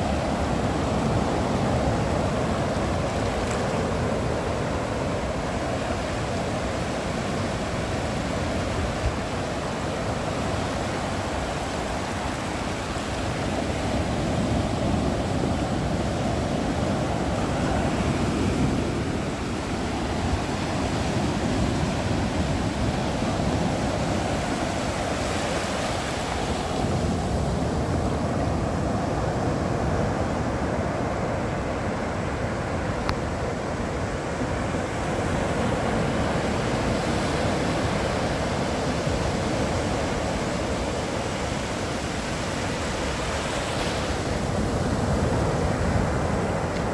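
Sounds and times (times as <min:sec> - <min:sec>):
ocean waves breaking: 0:00.0 - 0:46.9.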